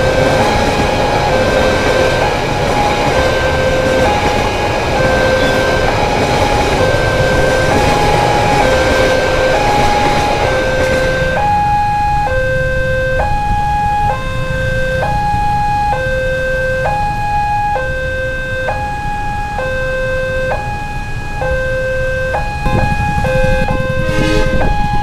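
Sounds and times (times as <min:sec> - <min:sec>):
level crossing two-tone alarm: 0:00.0 - 0:25.0
road traffic: 0:00.0 - 0:25.0
train rumble: 0:00.0 - 0:25.0.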